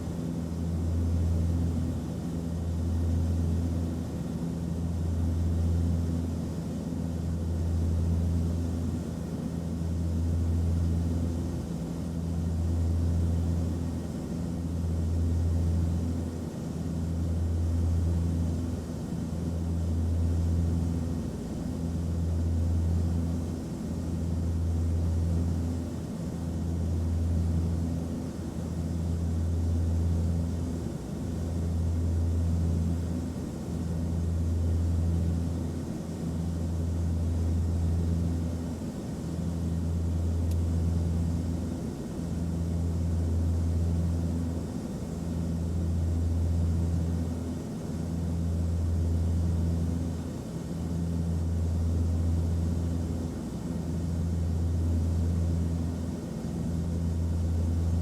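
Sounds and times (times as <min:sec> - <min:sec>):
airliner engine drone: 0:00.0 - 0:58.0.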